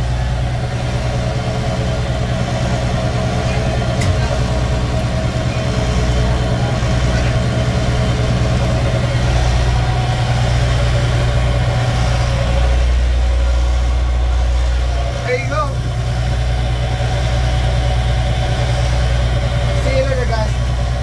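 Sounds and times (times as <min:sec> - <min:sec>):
higher steady hums: 0:00.0 - 0:21.0
ice cream truck machinery drone: 0:00.0 - 0:21.0.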